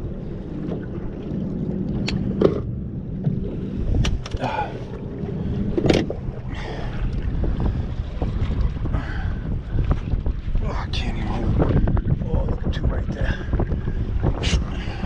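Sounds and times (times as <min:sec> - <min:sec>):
low rumble: 0:00.0 - 0:15.0
shallow water moving: 0:00.0 - 0:15.0
wind buffeting microphone: 0:00.0 - 0:15.0.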